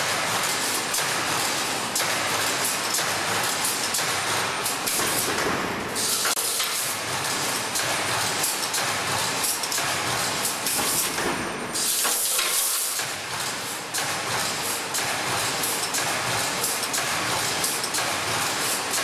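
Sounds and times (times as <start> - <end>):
welding machine clatter and hiss: 0.0 - 19.0.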